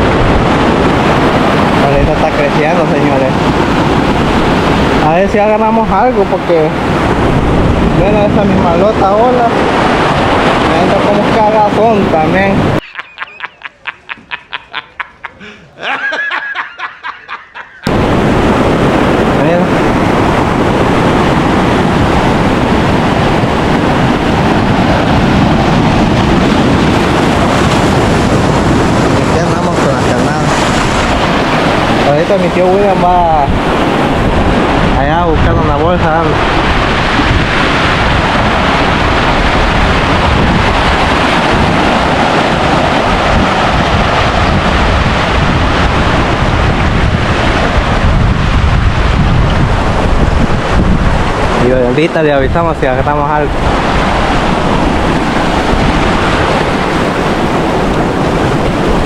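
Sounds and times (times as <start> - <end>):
wind buffeting the microphone: 0.0 - 13.0, 17.8 - 59.0
sea surf against rocks: 0.0 - 59.0.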